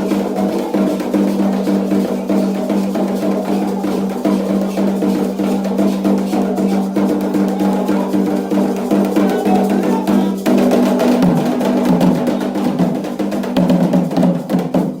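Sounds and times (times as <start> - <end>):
hand drums beating fast rhythm: 0.0 - 15.0
other percussion: 0.0 - 15.0.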